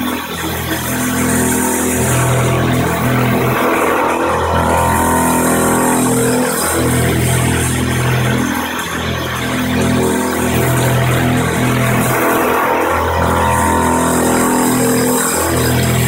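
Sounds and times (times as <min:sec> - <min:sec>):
milling machine humming: 0:00.0 - 0:16.0
cutting tool chatter: 0:00.2 - 0:16.0.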